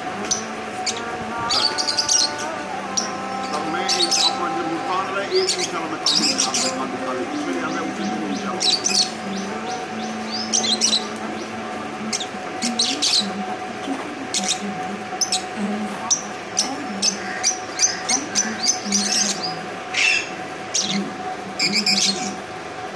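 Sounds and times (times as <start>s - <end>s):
birds chirping: 0.0s - 22.9s
faint steady hum: 0.0s - 22.9s.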